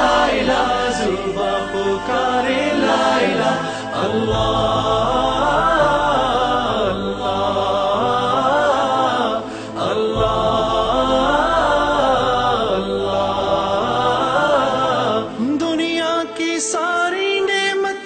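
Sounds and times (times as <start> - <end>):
low steady drone: 0.0 - 15.5
voices singing slow melody: 0.0 - 18.0.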